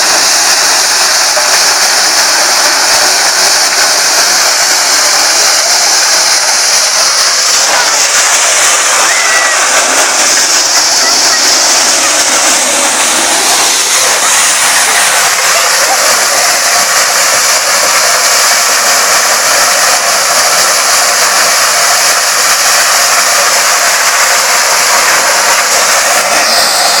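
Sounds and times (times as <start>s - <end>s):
maize sheller rushing noise: 0.0s - 27.0s.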